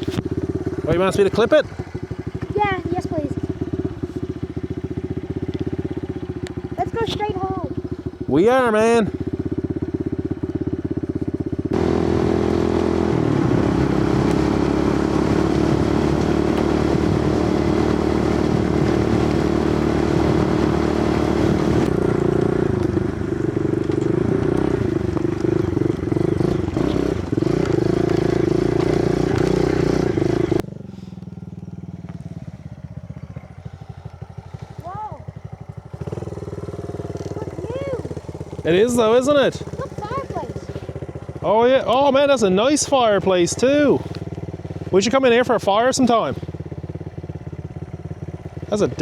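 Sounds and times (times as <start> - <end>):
motorbike engine running: 0.0 - 49.0.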